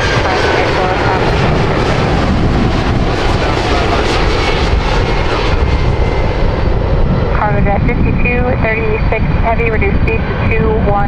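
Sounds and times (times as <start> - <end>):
loud jet engine noise: 0.0 - 11.0.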